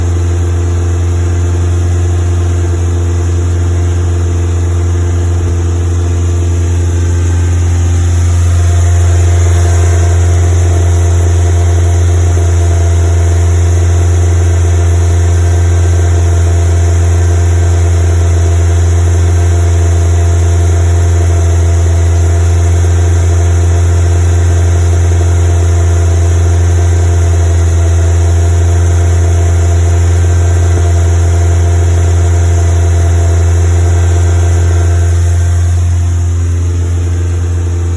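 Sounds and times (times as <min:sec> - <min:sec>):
engine idling with misfire: 0:00.0 - 0:37.9.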